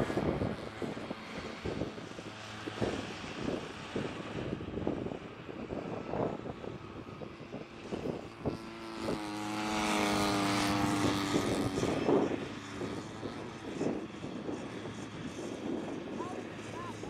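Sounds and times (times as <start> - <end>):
model airplane engine buzzing: 0.0 - 17.0
wind buffeting microphone: 0.0 - 17.0.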